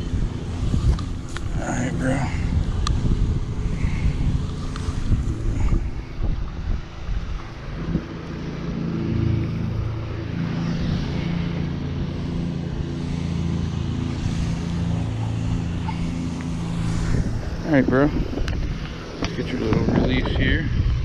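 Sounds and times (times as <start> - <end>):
motor droning: 0.0 - 21.0
wind rumble on microphone: 0.0 - 21.0.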